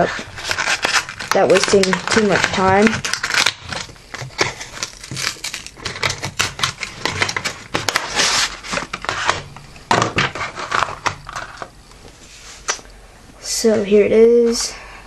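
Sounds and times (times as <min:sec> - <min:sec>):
cardboard and plastic packaging crinkling: 0:00.0 - 0:12.8.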